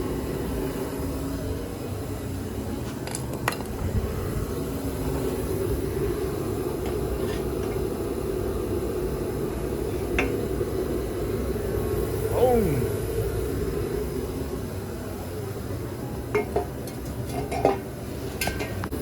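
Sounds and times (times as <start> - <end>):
steady low background noise: 0.0 - 19.0.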